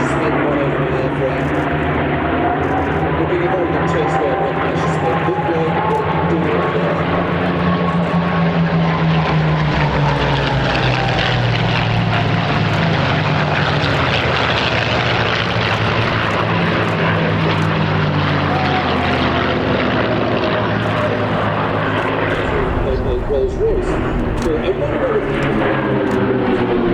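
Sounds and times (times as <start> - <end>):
propeller aircraft flying past: 0.0 - 26.9.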